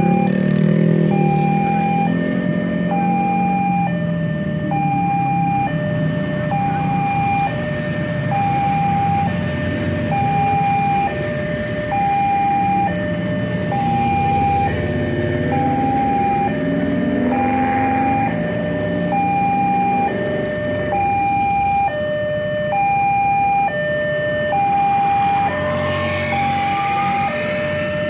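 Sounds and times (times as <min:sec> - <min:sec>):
motorcycle and car engines: 0:00.0 - 0:28.0
two-tone crossing alarm: 0:00.0 - 0:28.0.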